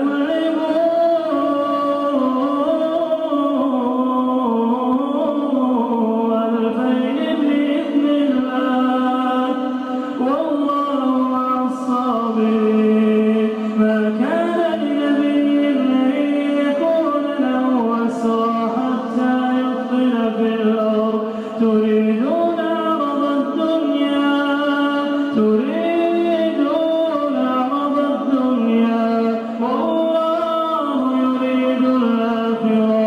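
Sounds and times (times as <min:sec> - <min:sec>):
man chanting recitation: 0:00.0 - 0:33.0.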